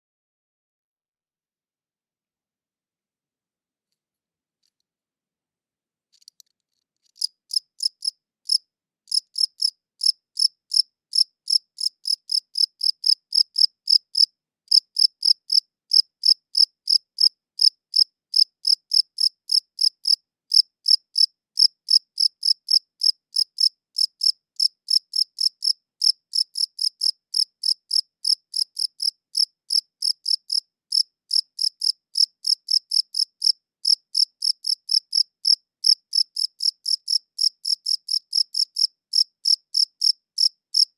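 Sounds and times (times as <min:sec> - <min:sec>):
cricket chirping: 0:07.2 - 0:40.9.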